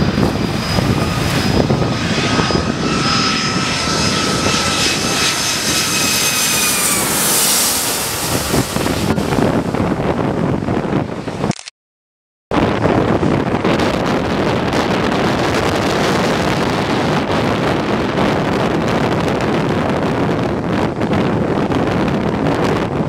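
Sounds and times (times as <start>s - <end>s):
jet engines roaring: 0.0s - 11.5s, 12.6s - 22.2s
wind buffeting microphone: 0.0s - 11.5s, 12.5s - 23.0s.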